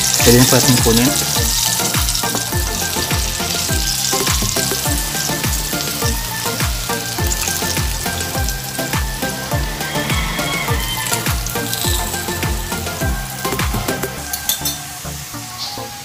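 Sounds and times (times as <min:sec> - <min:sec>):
background music with steady beat: 0:00.0 - 0:16.0
chicken sizzling in hot oil: 0:00.0 - 0:16.0.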